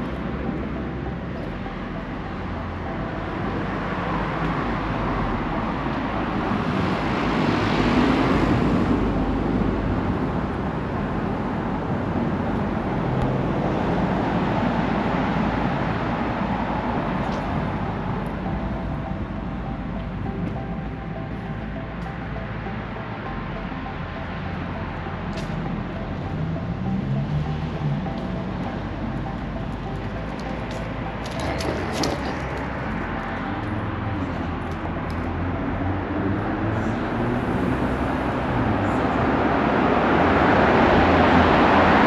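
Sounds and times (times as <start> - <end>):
traffic background: 0.0 - 42.0
vehicle passing: 0.0 - 42.0.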